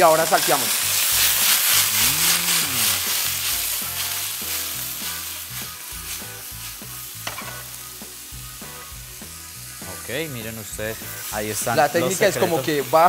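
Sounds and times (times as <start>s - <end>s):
vegetables sizzling in pan: 0.0s - 13.0s.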